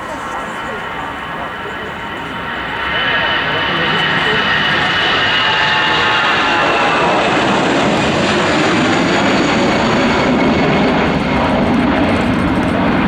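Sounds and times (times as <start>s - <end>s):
airliner engines passing: 0.0s - 13.0s.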